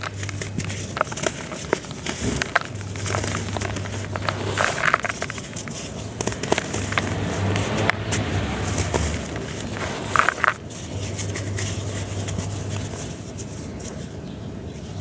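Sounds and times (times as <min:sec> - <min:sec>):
dry dirt crumbling by hand: 0:00.0 - 0:14.0.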